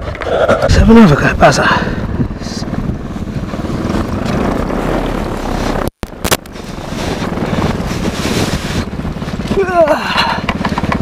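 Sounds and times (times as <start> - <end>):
wind noise on microphone: 0.0 - 11.0
two-stroke engine running: 1.8 - 11.0.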